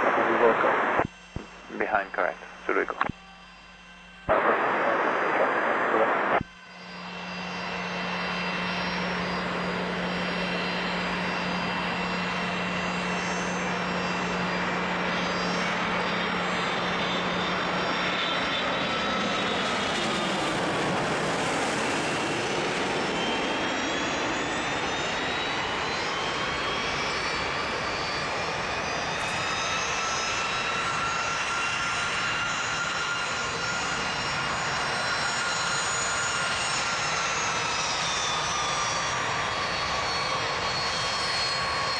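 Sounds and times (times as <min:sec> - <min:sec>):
jet engines whining: 0:00.0 - 0:41.9
jet passing: 0:07.4 - 0:41.9.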